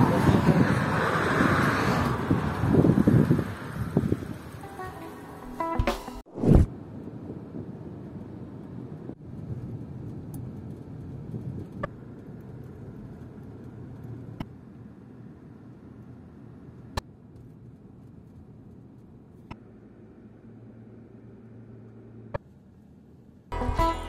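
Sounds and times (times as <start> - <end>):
car tyres and engine rumble: 0.0 - 4.7, 6.4 - 23.8.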